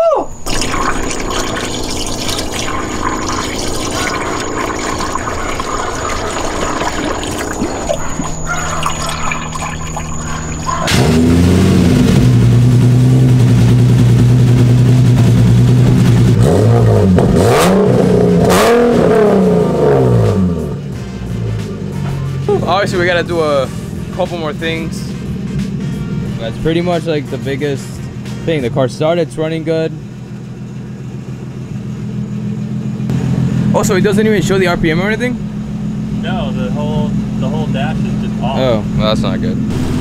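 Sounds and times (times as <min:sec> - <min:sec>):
car engine running: 0:00.3 - 0:40.0
car engine revving: 0:00.4 - 0:40.0.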